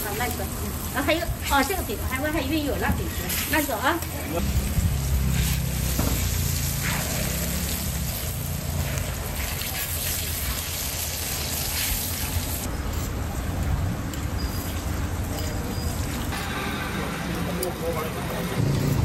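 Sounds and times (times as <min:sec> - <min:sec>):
pancakes sizzling in oil: 0:00.0 - 0:16.4.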